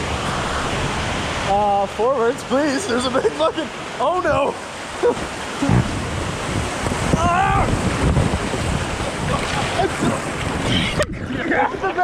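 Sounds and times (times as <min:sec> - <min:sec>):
river water rushing: 0:00.0 - 0:12.0
wind buffeting microphone: 0:00.0 - 0:12.0.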